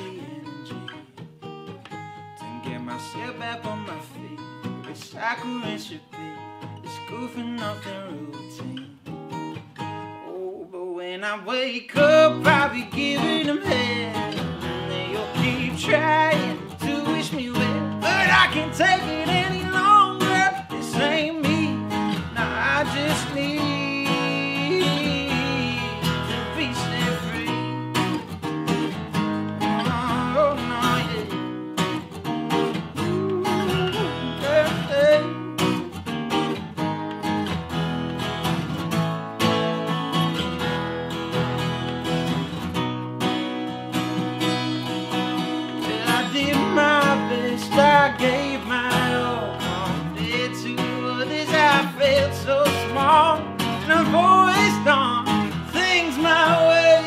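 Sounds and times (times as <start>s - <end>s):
picked guitar lead melody: 0.0s - 10.8s, 11.5s - 57.0s
strummed acoustic guitar chords: 0.0s - 57.0s.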